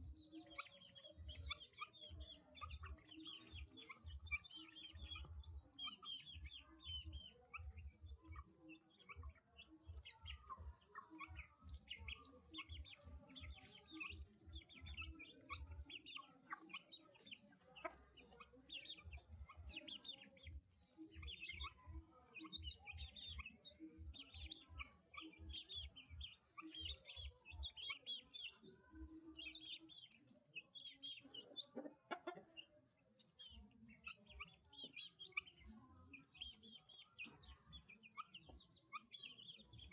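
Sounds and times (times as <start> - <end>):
chicken clucking: 0.0 - 39.9
chicks peeping: 0.0 - 39.9.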